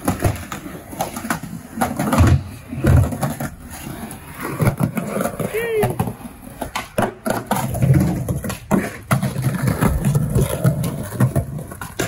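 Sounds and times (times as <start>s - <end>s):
skateboard clacks: 0.0s - 12.0s
skateboard low thumps: 0.0s - 12.0s.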